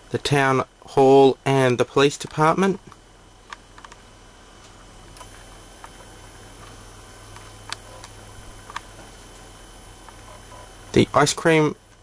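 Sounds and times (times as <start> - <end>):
faint high whine: 0.0 - 12.0
steady low hum: 0.0 - 12.0.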